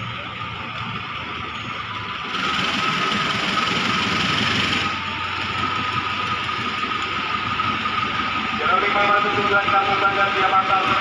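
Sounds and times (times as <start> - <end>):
locomotive engine drone: 0.0 - 11.0
thin steady whine: 0.0 - 11.0.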